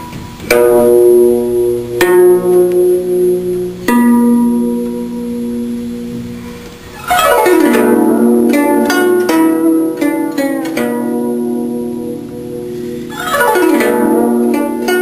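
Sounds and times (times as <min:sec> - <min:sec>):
plucked zither-like string instrument: 0:00.0 - 0:15.0.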